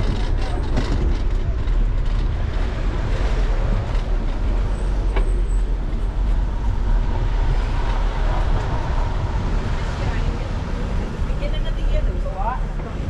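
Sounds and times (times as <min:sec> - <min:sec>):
bicycle road rumble: 0:00.0 - 0:13.0
wind: 0:00.0 - 0:13.0.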